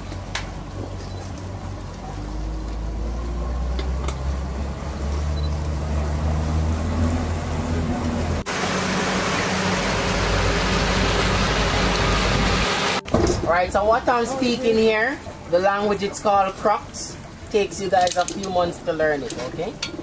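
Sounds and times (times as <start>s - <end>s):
boat motor humming: 0.0s - 20.0s
rushing wind and water: 2.8s - 20.0s.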